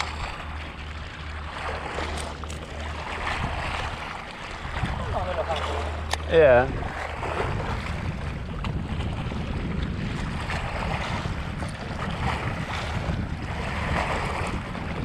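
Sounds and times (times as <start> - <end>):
waves washing on rocks: 0.0 - 15.0
wind buffeting microphone: 0.0 - 15.0.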